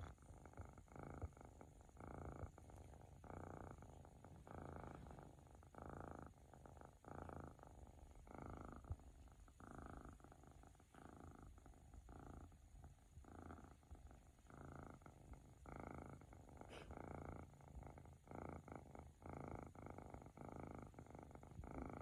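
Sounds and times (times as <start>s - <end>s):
kitten purring: 0.0s - 22.0s.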